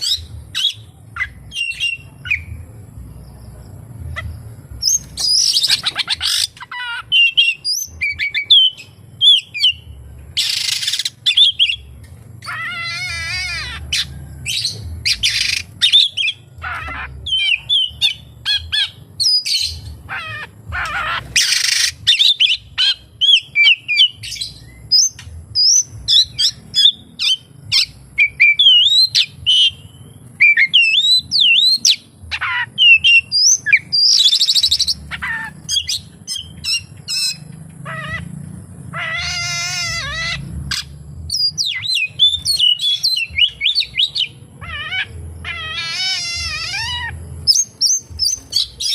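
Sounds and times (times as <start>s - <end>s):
songbird singing whistles and trills: 0.0s - 38.3s, 39.0s - 48.9s.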